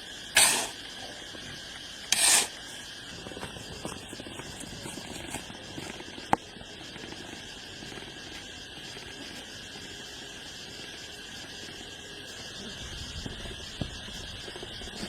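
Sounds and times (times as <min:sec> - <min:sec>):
insect chorus buzzing: 0:00.0 - 0:15.0.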